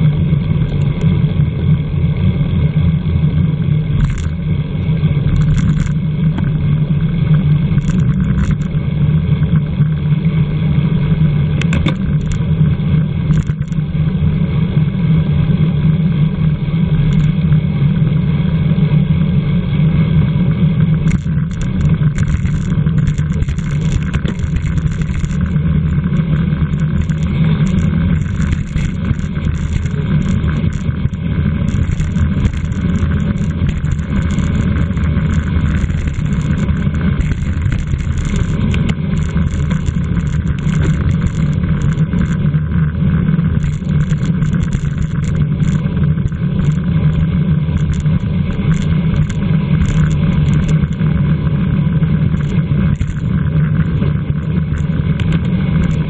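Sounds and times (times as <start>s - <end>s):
wind rumbling on microphone: 0.0s - 56.0s.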